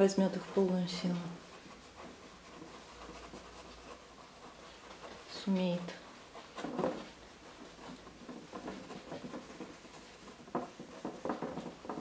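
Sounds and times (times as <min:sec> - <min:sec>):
paintbrush dabbing on canvas: 0:00.0 - 0:12.0.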